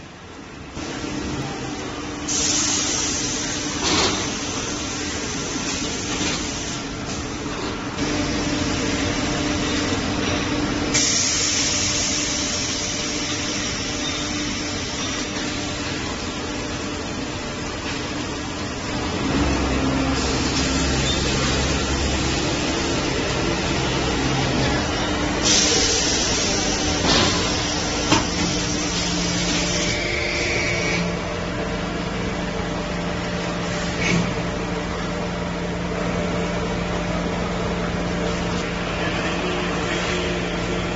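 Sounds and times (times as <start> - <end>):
machinery din with hum: 0.0 - 40.9.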